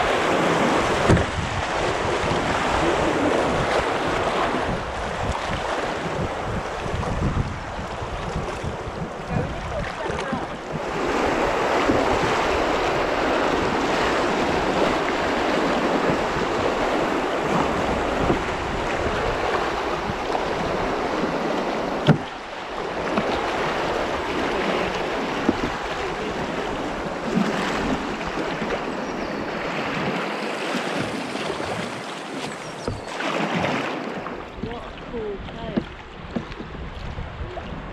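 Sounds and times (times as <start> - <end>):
wind buffeting microphone: 0.0 - 32.1, 32.7 - 37.9
paddle strokes in water: 0.0 - 37.9
river water rushing and splashing: 0.0 - 37.9.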